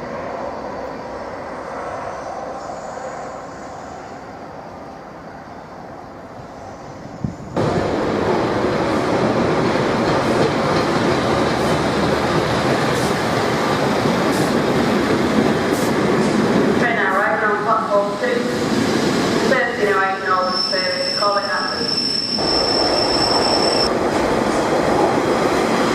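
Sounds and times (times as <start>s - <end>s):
train rumbling on rails: 0.0s - 25.9s.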